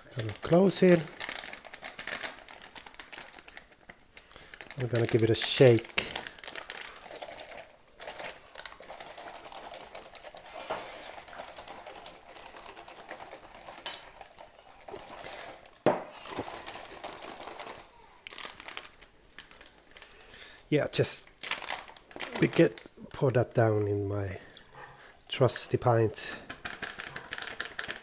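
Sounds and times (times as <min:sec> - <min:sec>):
plastic pouch crinkling while shaken: 0:00.0 - 0:20.2, 0:20.9 - 0:23.6, 0:24.3 - 0:28.0.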